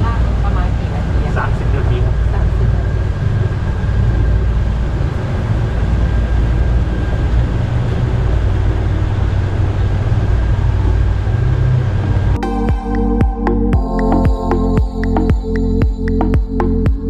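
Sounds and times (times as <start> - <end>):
boat motor and water rumble: 0.0 - 17.0.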